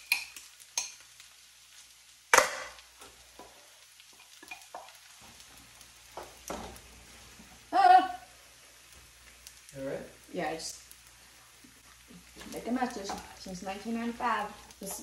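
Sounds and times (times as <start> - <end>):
faint sizzle: 0.0 - 15.0.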